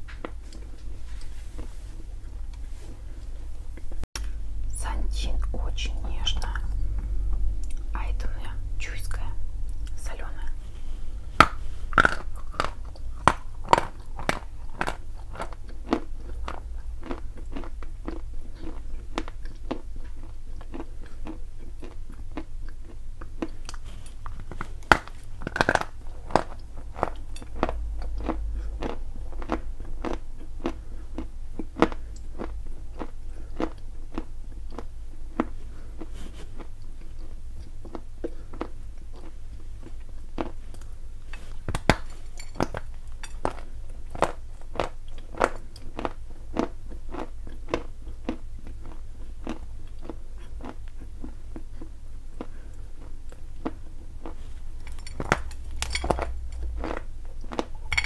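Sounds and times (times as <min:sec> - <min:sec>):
person crunching and chewing: 0:09.8 - 0:58.0.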